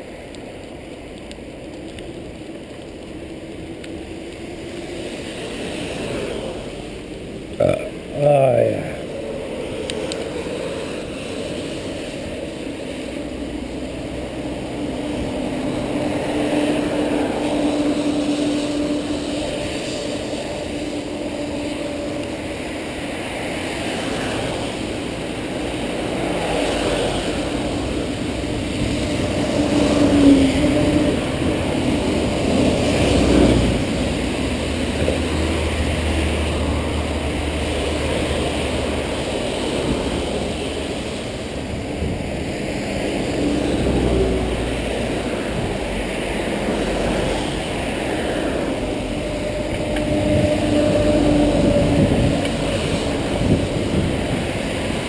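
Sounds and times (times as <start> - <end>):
cars passing on wet road: 0.0 - 55.0.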